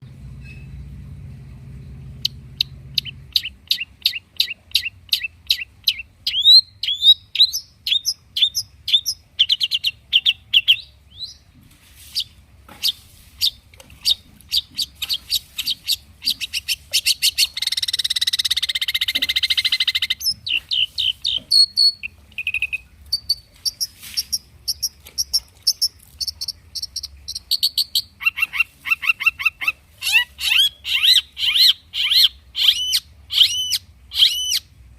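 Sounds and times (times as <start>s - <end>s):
harsh buzzy bird chatter: 2.2s - 11.4s, 12.1s - 34.6s
shrike singing chirps and whistles: 2.6s - 11.4s, 13.4s - 34.7s.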